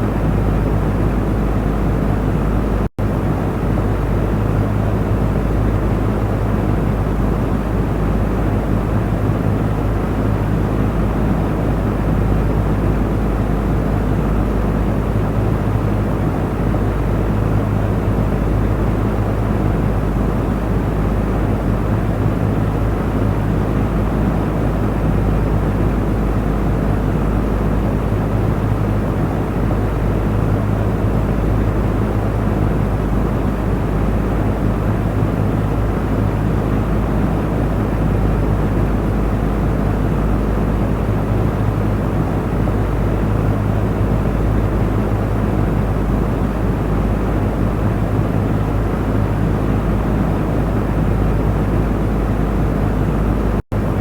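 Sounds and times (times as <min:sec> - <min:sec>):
electric fan running: 0:00.0 - 0:54.0.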